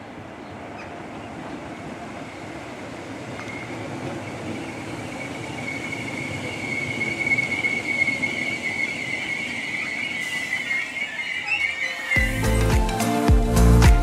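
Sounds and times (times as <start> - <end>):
train running gear rumble: 0.0 - 12.4
train brakes squealing: 0.6 - 12.6.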